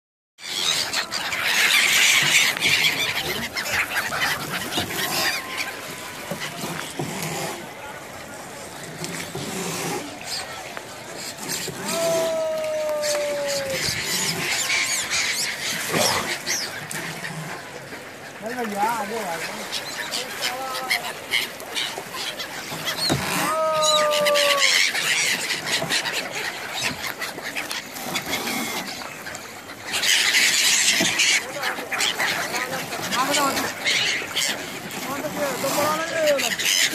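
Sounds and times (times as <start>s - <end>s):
flock of gulls calling: 0.4s - 36.9s.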